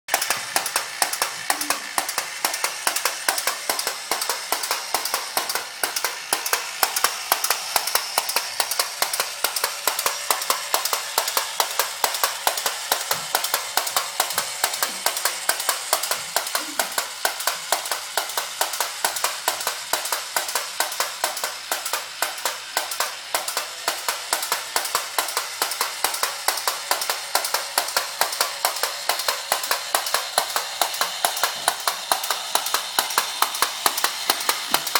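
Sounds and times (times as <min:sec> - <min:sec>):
toy mechanism clicking: 0:00.1 - 0:34.9.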